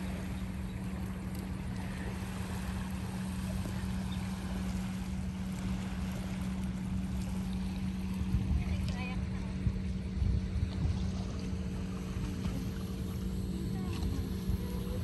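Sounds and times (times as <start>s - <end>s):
constant low hum: 0.0s - 15.0s
irregular low rumble: 0.0s - 15.0s
wind buffeting microphone: 0.0s - 15.0s.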